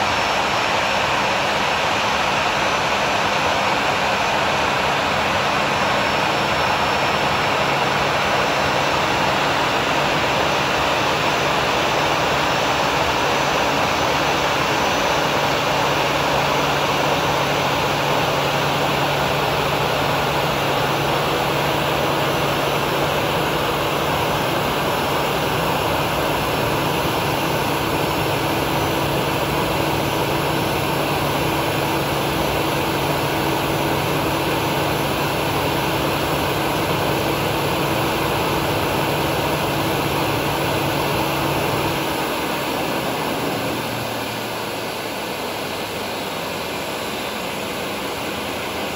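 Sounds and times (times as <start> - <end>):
jet engines idling: 0.0 - 48.9.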